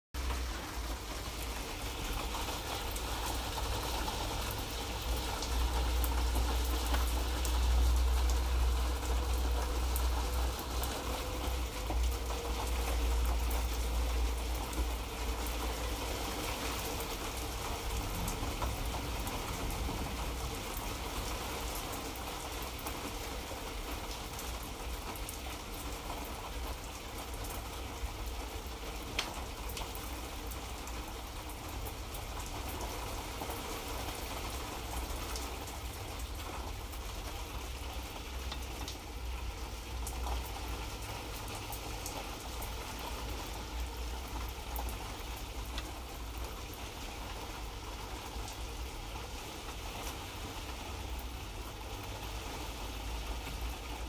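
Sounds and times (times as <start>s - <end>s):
light rain hissing: 0.2s - 54.0s.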